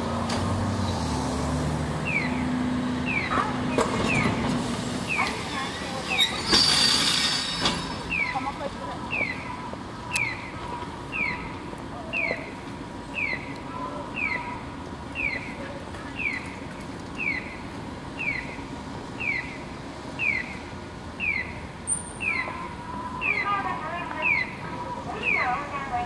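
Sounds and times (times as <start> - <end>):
low street hum: 0.0 - 26.0.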